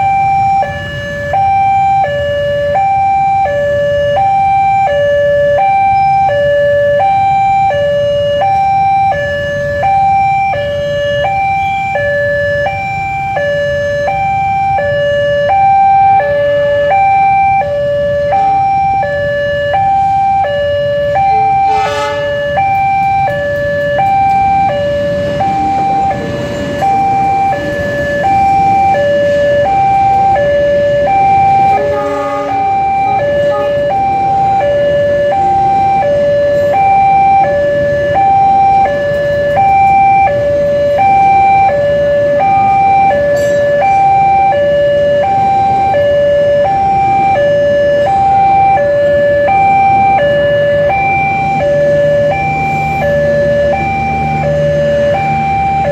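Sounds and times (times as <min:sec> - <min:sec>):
passing train rumble: 0:00.0 - 0:55.9
two-tone level crossing alarm: 0:00.0 - 0:55.9.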